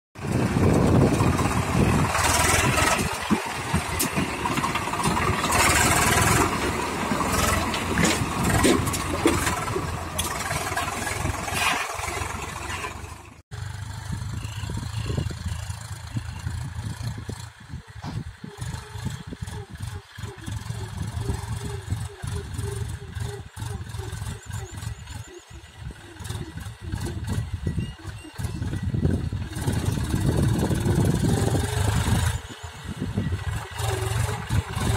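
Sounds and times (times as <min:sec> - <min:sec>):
backhoe loader engine running: 0:00.2 - 0:34.9
distant tractor engine: 0:00.2 - 0:34.9
tractor diesel engine running: 0:00.2 - 0:34.9.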